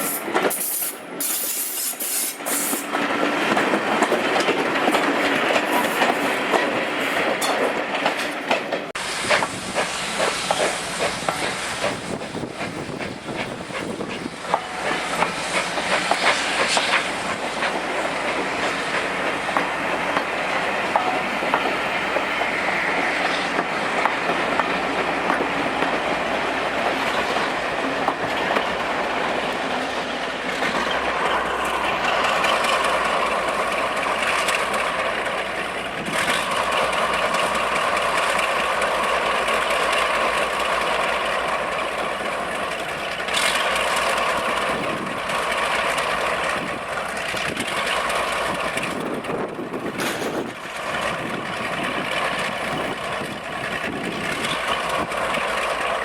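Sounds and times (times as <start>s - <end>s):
train wheels clicking over rail joints: 0.0s - 56.0s.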